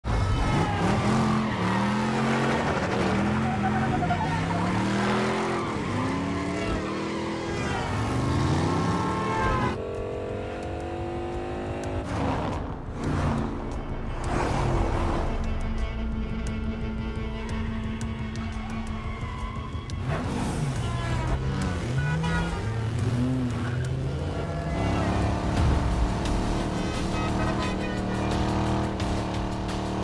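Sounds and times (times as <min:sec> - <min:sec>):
car engine revving: 0:00.2 - 0:15.5, 0:19.8 - 0:30.0.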